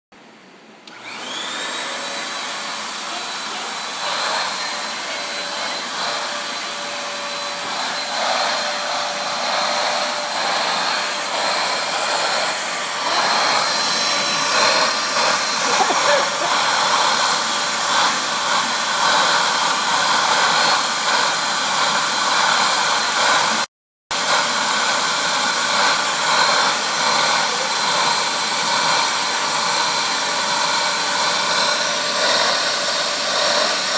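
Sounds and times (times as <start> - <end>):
vacuum cleaner motor whine: 0.8 - 33.9.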